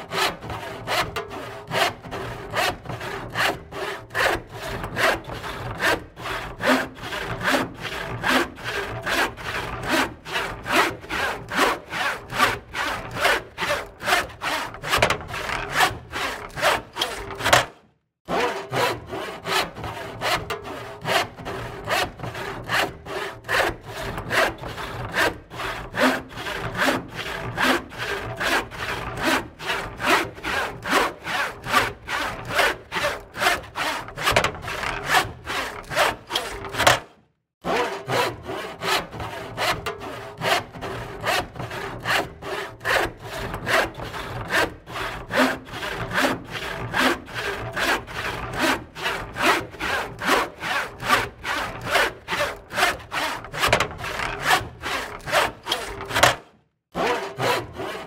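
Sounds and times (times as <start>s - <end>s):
saw cutting wood: 0.0s - 58.0s.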